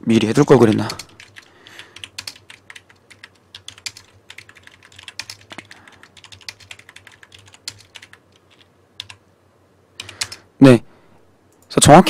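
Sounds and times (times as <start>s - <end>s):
computer keyboard typing: 0.0s - 9.2s, 10.0s - 10.5s.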